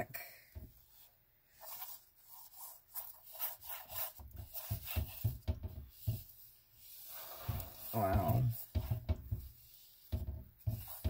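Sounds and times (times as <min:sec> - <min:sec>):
hand smearing paint on canvas: 0:00.8 - 0:11.0.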